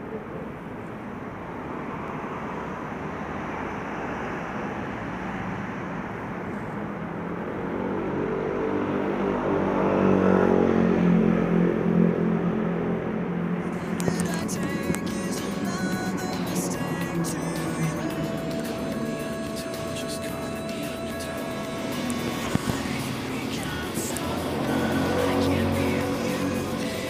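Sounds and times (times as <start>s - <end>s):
steady background noise: 0.0s - 27.0s
vehicle engine: 0.0s - 27.0s.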